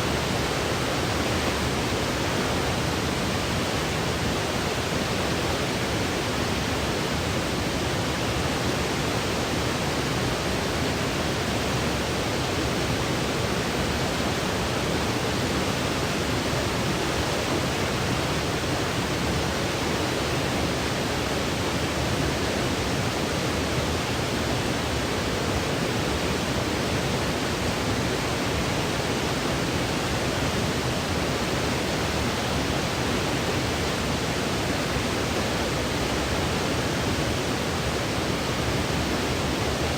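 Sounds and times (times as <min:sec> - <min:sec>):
steady synthetic noise hiss: 0:00.0 - 0:39.9.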